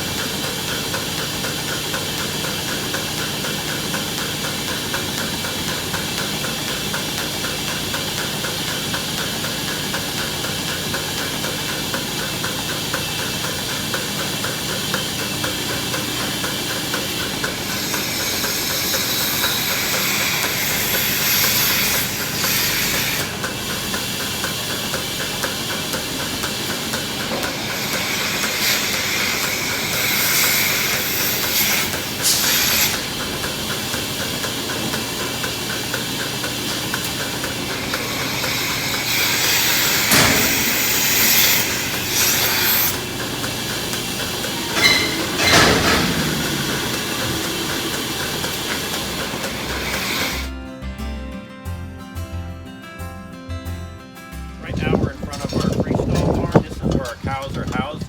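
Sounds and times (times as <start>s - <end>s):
mechanical hiss: 0.0s - 50.5s.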